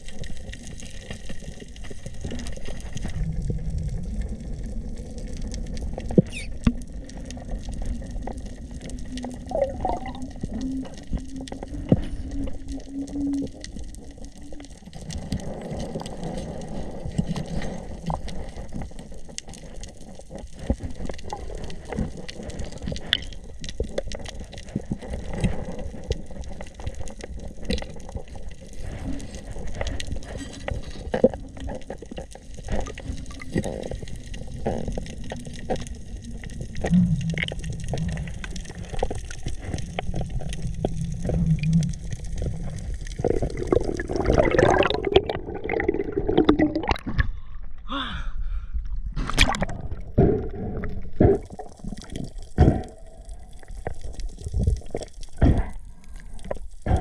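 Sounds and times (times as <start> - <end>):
crackling clicks: 0.0 - 47.9, 48.8 - 57.0
muffled underwater wash: 0.0 - 57.0.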